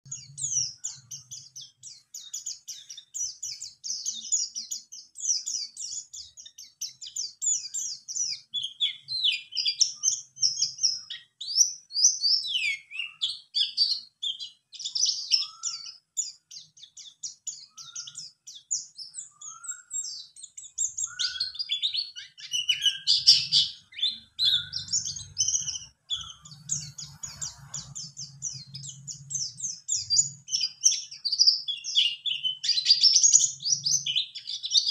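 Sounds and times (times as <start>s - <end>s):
bird twittering song: 0.0s - 34.9s.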